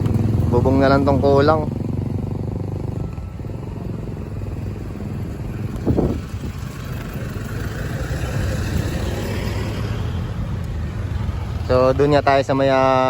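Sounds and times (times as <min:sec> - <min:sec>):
vehicle engines rumbling: 0:00.0 - 0:13.0
vehicle passing: 0:00.0 - 0:13.0.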